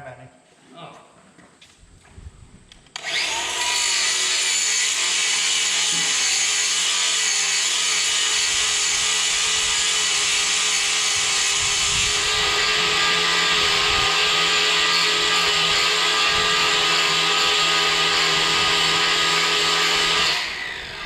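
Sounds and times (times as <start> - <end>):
power tool spinning with high hiss: 3.0 - 21.0.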